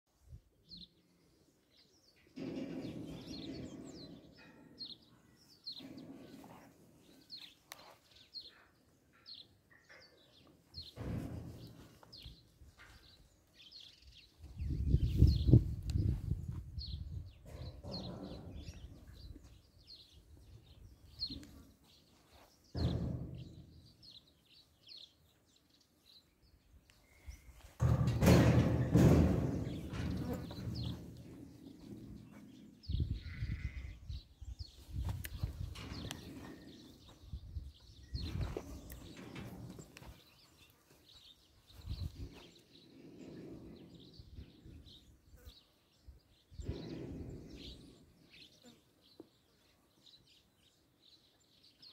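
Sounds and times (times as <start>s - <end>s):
small birds chirping: 0.3s - 51.9s.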